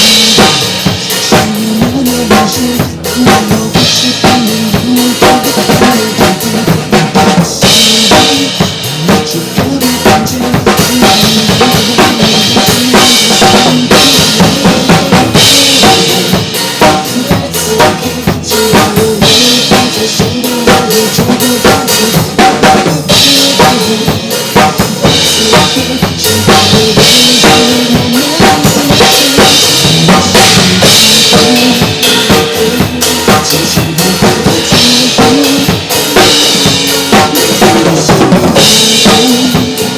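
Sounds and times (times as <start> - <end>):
pop backing track: 0.0 - 39.9.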